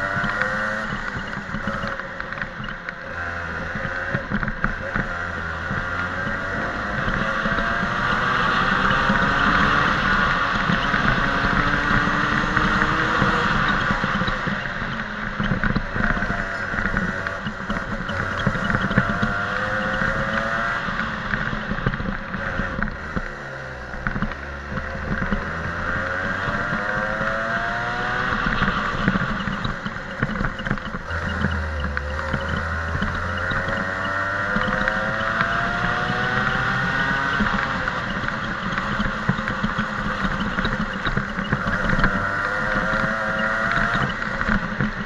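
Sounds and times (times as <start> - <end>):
kart engine revving: 0.0 - 45.0.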